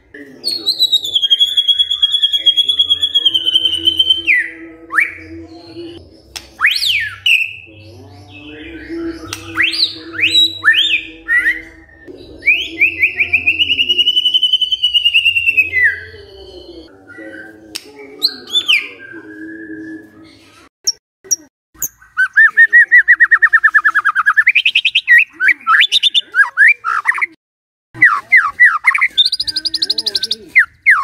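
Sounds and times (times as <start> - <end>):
bird singing whistles and trills: 0.5 - 20.3, 21.8 - 27.2, 28.0 - 31.0.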